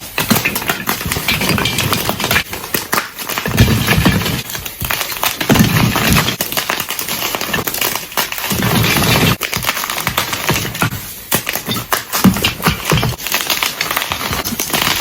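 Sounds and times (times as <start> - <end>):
chalk being crushed: 0.0 - 15.0.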